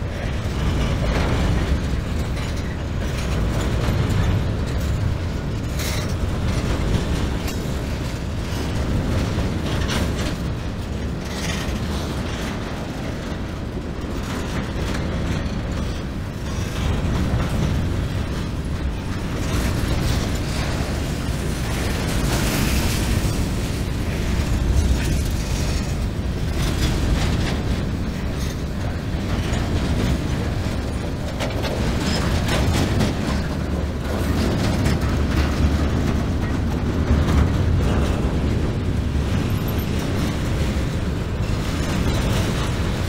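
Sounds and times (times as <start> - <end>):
steel wheels rumbling on rail: 0.0 - 43.0
train cars clanking: 0.0 - 43.0.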